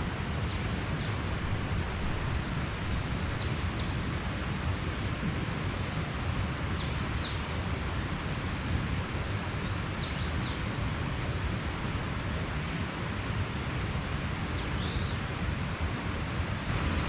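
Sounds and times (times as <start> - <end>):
mountain stream running: 0.0 - 17.0.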